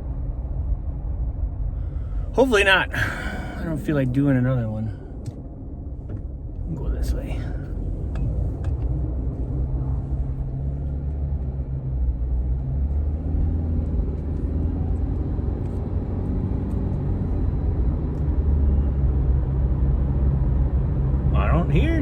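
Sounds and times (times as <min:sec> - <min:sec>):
car tyres and engine rumbling: 0:00.0 - 0:22.0.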